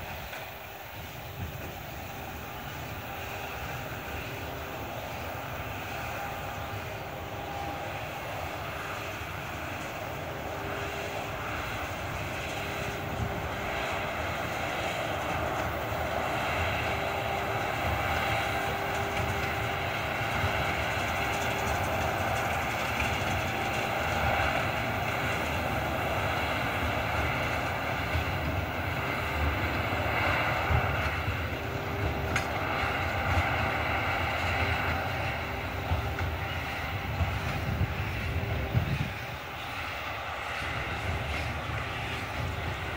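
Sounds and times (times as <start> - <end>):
tractor running: 0.0 - 42.9
hay baler baling: 3.2 - 42.9.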